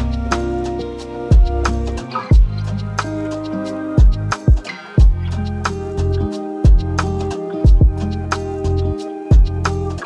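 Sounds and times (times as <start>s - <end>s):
beat with held chords: 0.0s - 10.0s
hi-hats ticking: 0.0s - 10.0s.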